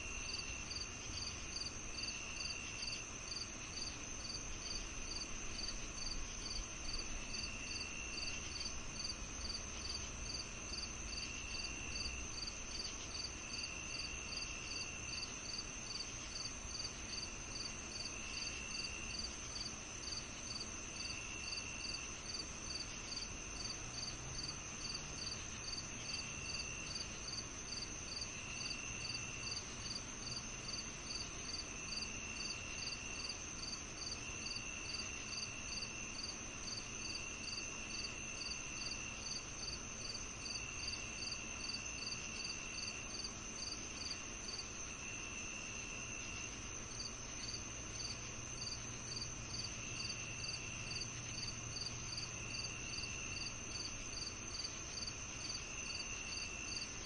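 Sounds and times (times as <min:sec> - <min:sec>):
cricket chirping: 0:00.0 - 0:57.0
lower insect trill: 0:00.0 - 0:57.0
high-pitched insect trill: 0:00.1 - 0:56.9.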